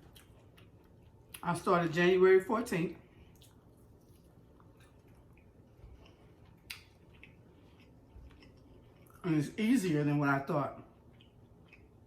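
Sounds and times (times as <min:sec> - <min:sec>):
person chewing: 0:00.0 - 0:01.7, 0:03.0 - 0:09.6, 0:10.5 - 0:12.0.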